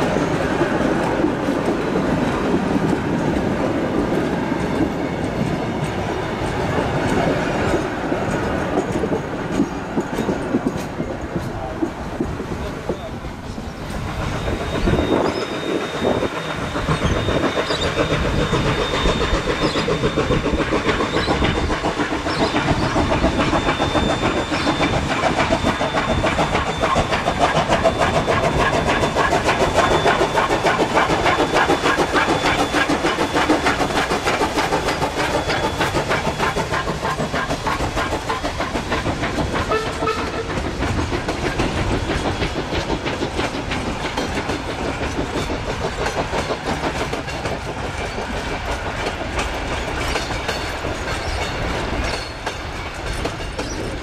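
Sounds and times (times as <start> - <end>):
carriages clattering over rail joints: 0.0 - 54.0
steam locomotive exhaust beating: 0.0 - 54.0.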